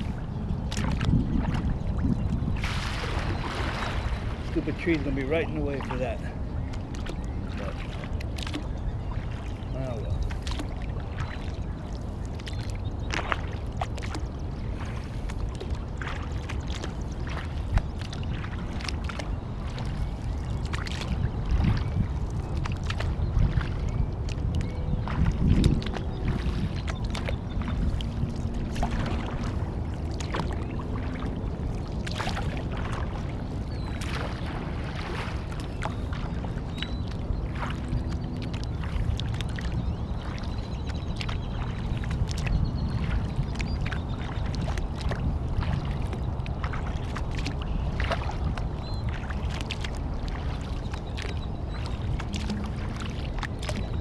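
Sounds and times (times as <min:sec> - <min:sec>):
water splashing from paddle: 0:00.0 - 0:54.0.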